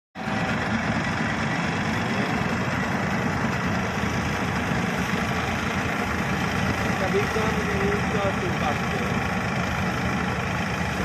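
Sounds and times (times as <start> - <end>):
diesel engine running: 0.2 - 11.0.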